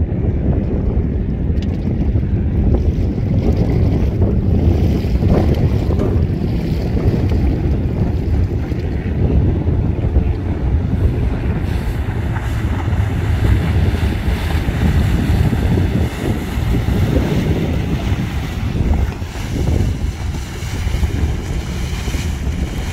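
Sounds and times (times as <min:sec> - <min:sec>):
choppy water: 0:00.0 - 0:22.9
motorboat passing: 0:00.0 - 0:22.9
wind buffeting microphone: 0:00.0 - 0:22.9.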